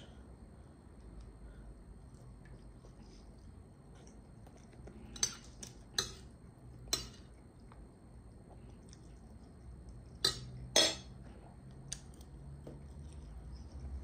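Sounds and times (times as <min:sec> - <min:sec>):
chewing food: 0:01.0 - 0:14.0.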